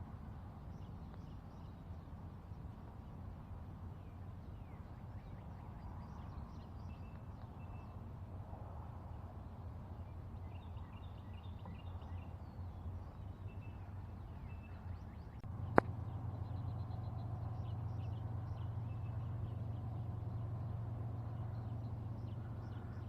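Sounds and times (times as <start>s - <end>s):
distant highway traffic: 0.0s - 23.0s
songbirds chirping: 0.3s - 23.0s.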